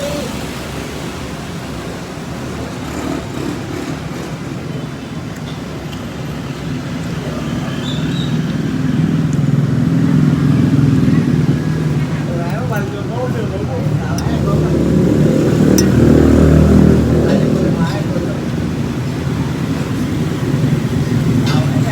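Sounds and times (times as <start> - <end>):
vehicle engine rumbling: 0.0 - 21.9.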